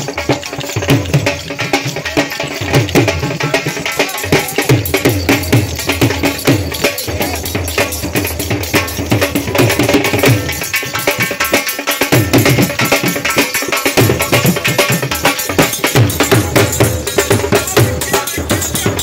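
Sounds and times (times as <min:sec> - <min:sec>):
drums in fast rhythm: 0:00.0 - 0:19.0.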